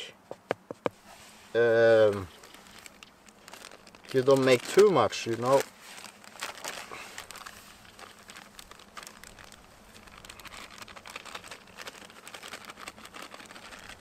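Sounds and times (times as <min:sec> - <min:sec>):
hands crinkling and scraping dough: 0:00.8 - 0:14.0.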